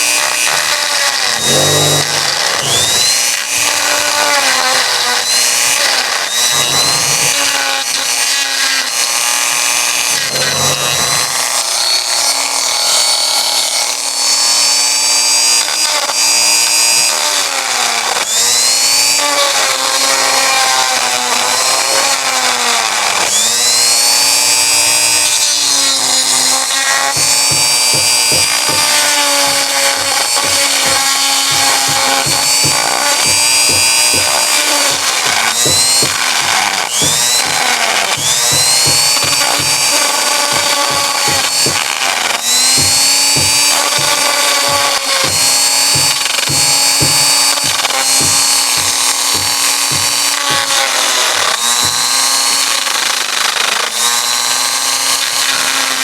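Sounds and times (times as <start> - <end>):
power tool motor whining: 0.0 - 56.0.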